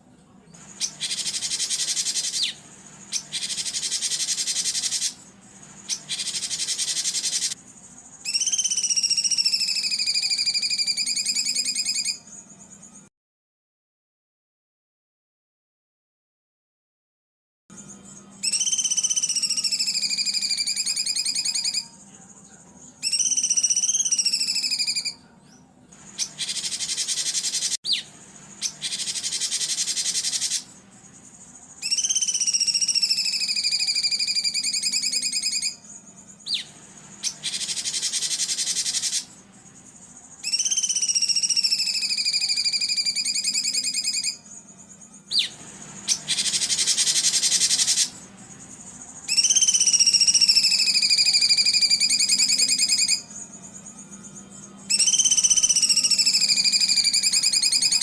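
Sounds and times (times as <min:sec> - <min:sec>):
faint low hum: 0:00.0 - 0:13.1, 0:17.7 - 0:58.0
recorded songbird trills: 0:00.4 - 0:13.1, 0:17.7 - 0:58.0.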